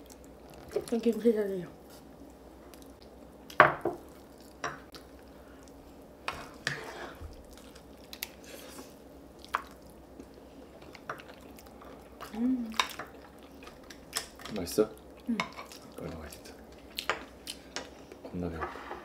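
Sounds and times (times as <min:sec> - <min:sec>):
wet eating sounds: 0:01.8 - 0:18.2.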